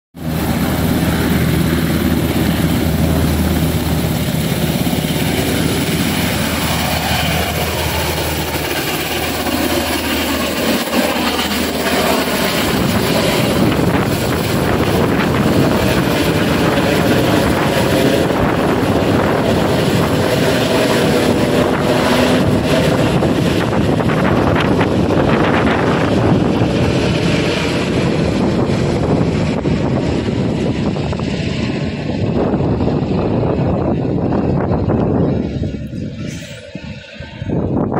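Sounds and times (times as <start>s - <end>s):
helicopter rotors and turbines: 0.2s - 37.9s.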